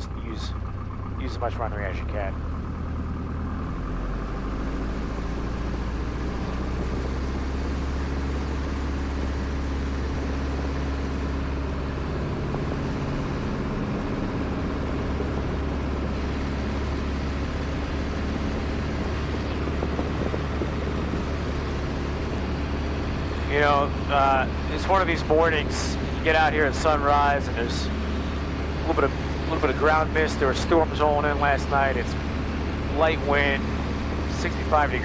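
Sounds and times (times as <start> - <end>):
light aircraft engine droning: 0.0 - 35.0.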